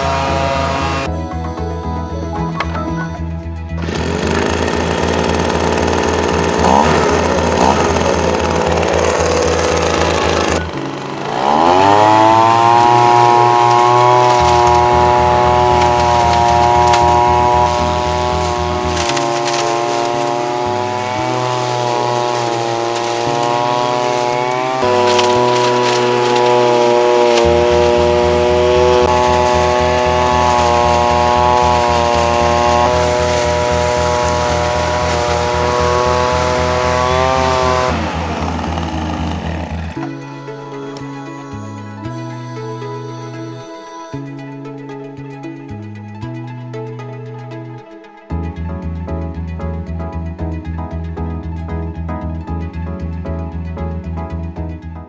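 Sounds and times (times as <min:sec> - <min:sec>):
leaf blower engine revving: 0:00.0 - 0:44.7
background music with steady beat: 0:00.0 - 0:55.0.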